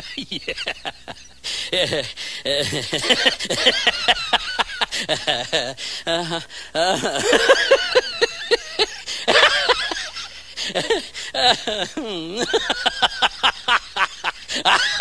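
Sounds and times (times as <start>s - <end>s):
person laughing: 0.0s - 15.0s.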